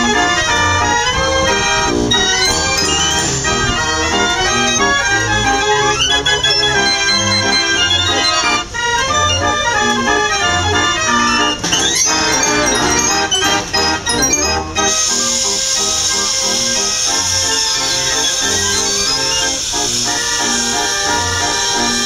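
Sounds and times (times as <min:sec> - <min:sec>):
organ music: 0:00.0 - 0:22.0.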